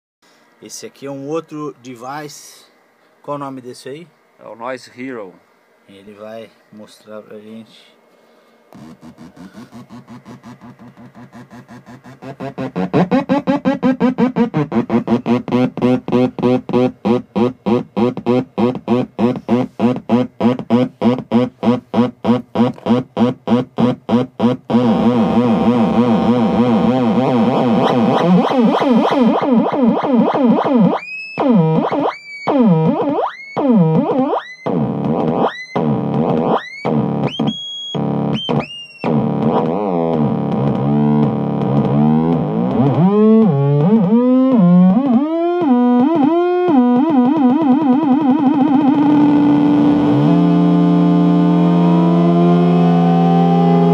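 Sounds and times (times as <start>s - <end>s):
distorted synthesizer buzzing drone: 8.7s - 53.9s.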